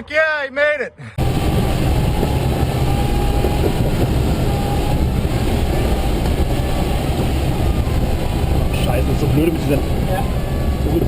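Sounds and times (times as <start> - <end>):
rushing air: 1.1 - 10.8
engine low rumble: 1.2 - 11.0.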